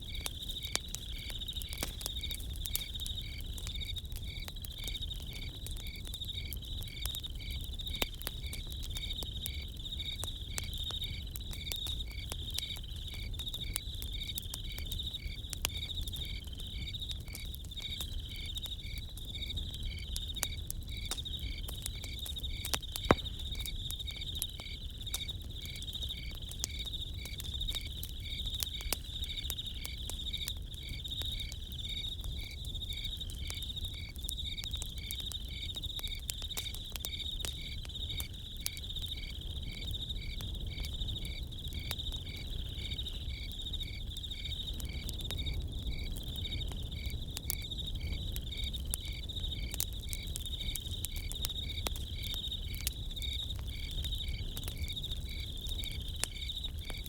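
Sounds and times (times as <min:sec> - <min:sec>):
campfire crackling and popping: 0:00.0 - 0:57.0
crickets trilling: 0:00.0 - 0:57.0.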